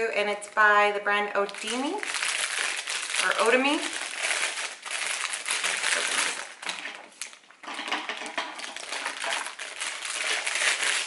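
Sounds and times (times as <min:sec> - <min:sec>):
plastic wrapper crinkling: 0:01.3 - 0:11.0.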